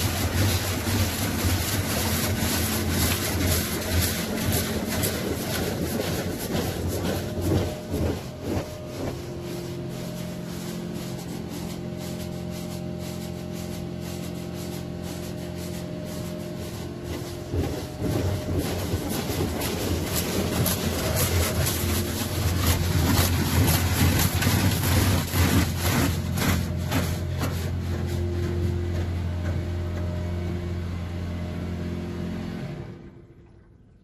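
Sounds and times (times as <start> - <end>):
water spray drumming on car: 0.0 - 32.1
car wash machinery humming: 0.0 - 34.0.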